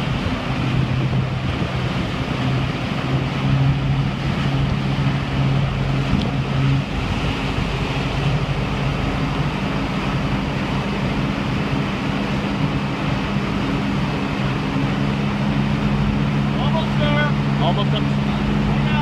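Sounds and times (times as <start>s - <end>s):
boat engine running: 0.0s - 19.0s
wake water rushing: 0.0s - 19.0s
wind: 0.0s - 19.0s.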